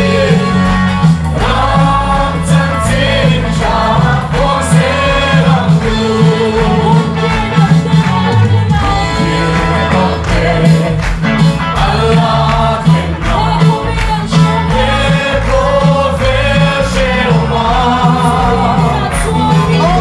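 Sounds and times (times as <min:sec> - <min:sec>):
group singing gospel: 0:00.0 - 0:20.0
instrumental accompaniment: 0:00.0 - 0:20.0.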